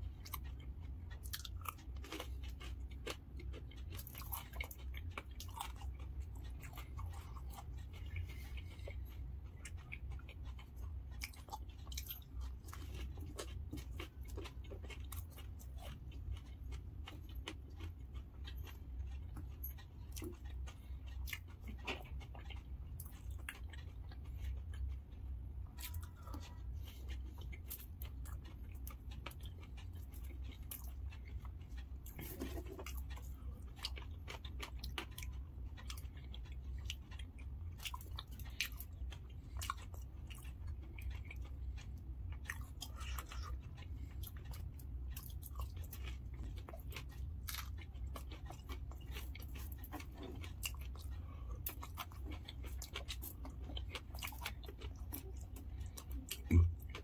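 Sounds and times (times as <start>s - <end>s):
crunchy food chewing: 0.0s - 57.0s
steady low hum: 0.0s - 57.0s.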